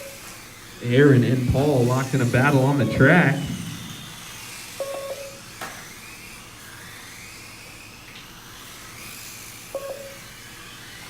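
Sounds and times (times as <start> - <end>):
toy car electric motors whining: 0.0 - 11.0.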